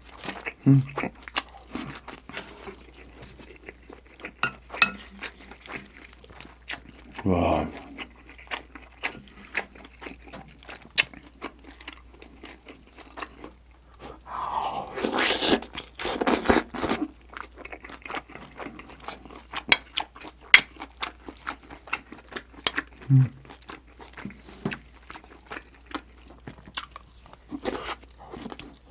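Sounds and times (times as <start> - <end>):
chewing mouth sounds: 0.1 - 28.9.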